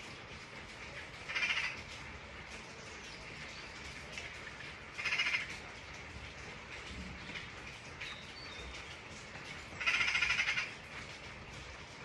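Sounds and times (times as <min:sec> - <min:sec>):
steady rain with drips: 0:00.0 - 0:12.0.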